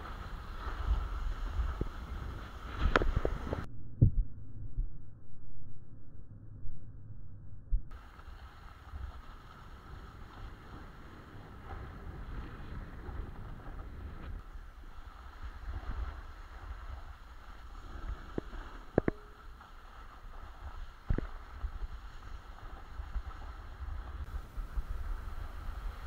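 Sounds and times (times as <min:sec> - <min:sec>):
snowboard scraping over snow: 0:00.0 - 0:03.7, 0:08.0 - 0:26.0
wind rumbling on microphone: 0:00.0 - 0:26.0.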